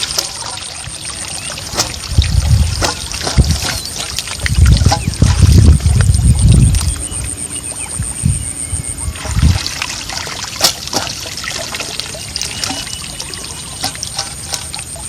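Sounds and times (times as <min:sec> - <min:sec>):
water trickling and pouring: 0:00.0 - 0:08.0, 0:09.0 - 0:15.0.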